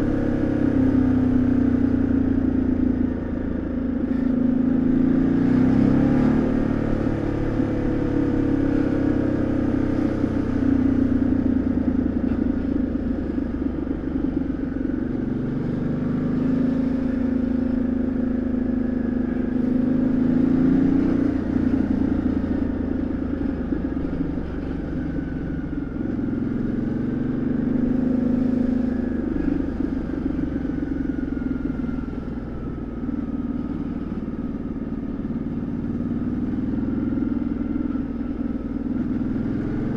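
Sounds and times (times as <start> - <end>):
motorcycle engine revving: 4.0 - 39.9.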